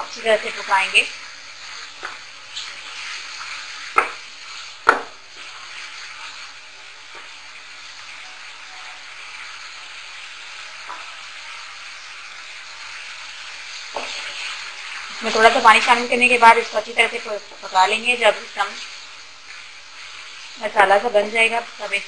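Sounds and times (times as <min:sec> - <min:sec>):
food sizzling in metal pot: 0:00.0 - 0:22.0.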